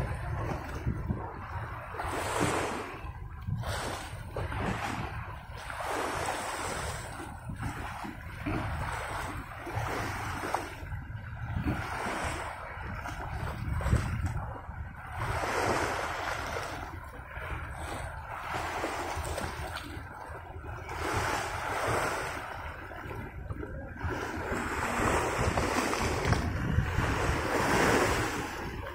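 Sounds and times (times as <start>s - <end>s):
waves washing onto stony shore: 0.0s - 10.9s, 15.1s - 28.9s
wind rumbling on microphone: 0.0s - 28.9s.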